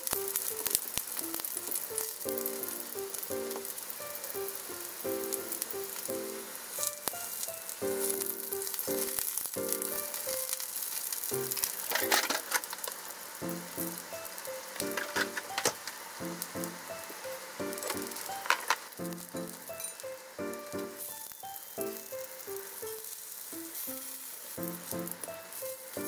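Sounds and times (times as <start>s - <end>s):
eggplant sizzling in oil: 0.0s - 26.0s
sharp crackles of frying: 0.0s - 26.0s
background music: 1.3s - 10.5s, 13.4s - 26.0s.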